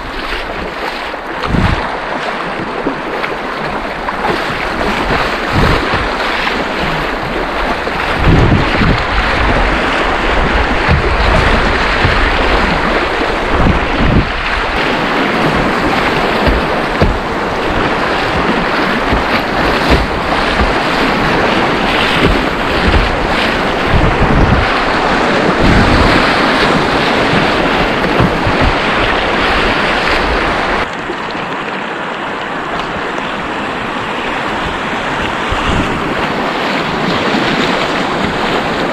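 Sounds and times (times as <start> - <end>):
wind buffeting microphone: 0.0 - 31.3, 32.6 - 38.9
rushing river rapids: 0.0 - 38.9
waves splashing against kayak: 0.0 - 38.9.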